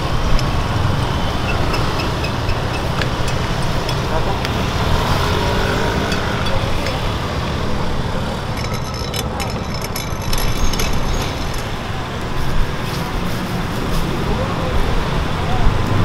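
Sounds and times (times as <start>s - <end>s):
street traffic rumble: 0.0s - 16.0s
light clinks and rustles: 0.3s - 14.1s.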